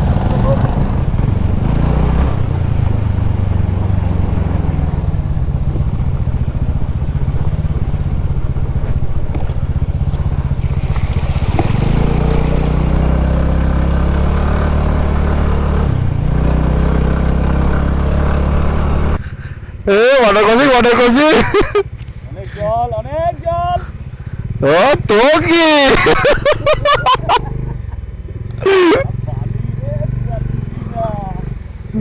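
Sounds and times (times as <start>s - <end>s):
scooter engine droning: 0.0s - 22.1s, 23.8s - 32.0s.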